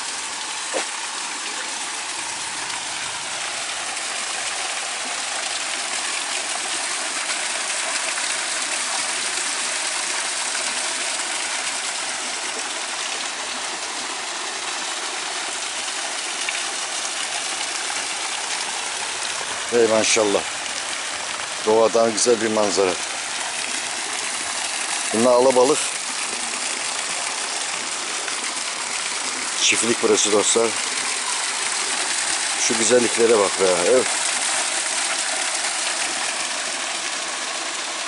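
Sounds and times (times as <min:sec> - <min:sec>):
water pouring into pond: 0:00.0 - 0:38.0.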